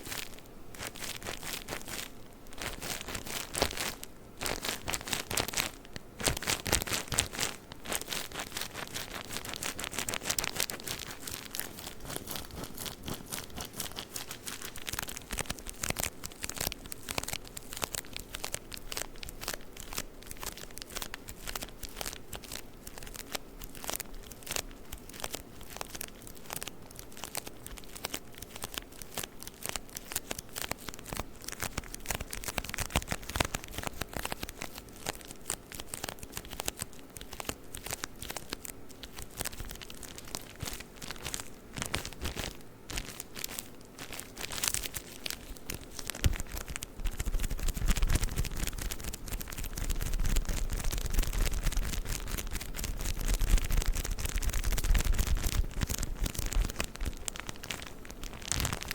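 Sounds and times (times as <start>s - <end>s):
tissue paper crinkling: 0.0s - 58.9s.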